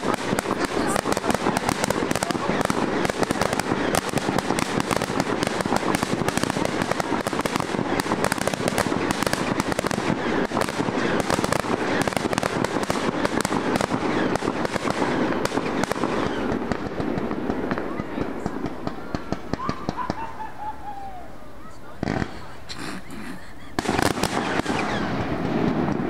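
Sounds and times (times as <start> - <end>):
fireworks popping and crackling: 0.0 - 20.8, 21.6 - 26.0.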